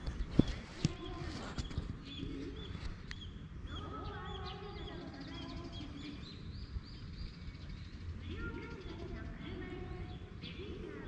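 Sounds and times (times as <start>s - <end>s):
small bird chirping: 0.0s - 11.0s
low steady rumble: 1.9s - 11.0s.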